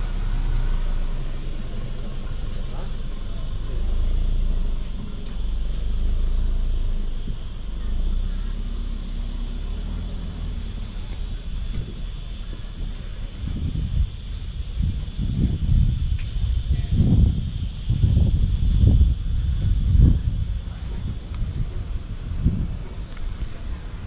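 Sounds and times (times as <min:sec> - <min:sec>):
low thumps: 0:00.0 - 0:23.0
high insect buzz: 0:00.0 - 0:24.0
low vehicle rumble: 0:00.0 - 0:24.0.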